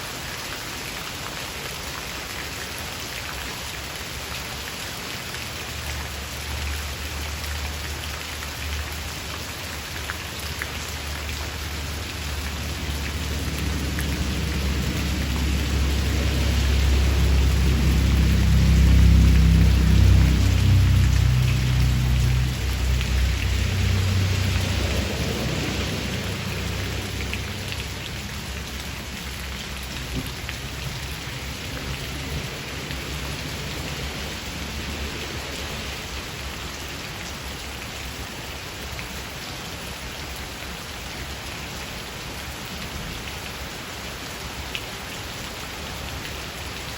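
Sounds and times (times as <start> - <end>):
rain shower falling: 0.0 - 46.9.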